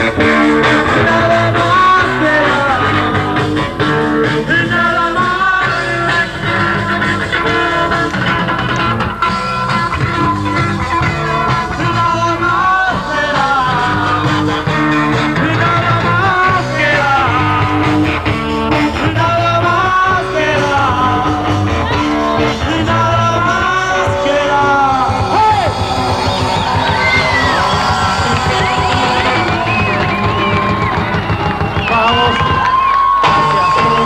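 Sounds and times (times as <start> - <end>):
bass and drums: 0.0 - 34.0
electric guitar lead: 0.0 - 34.0.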